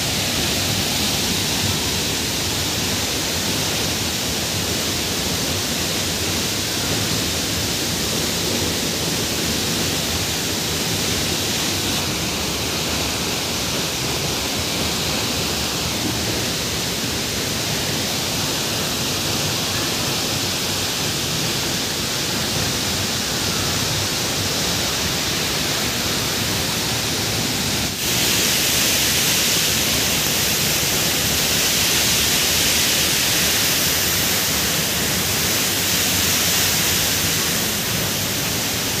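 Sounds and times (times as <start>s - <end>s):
heavy rain: 0.0s - 39.0s
waterfall: 0.0s - 39.0s.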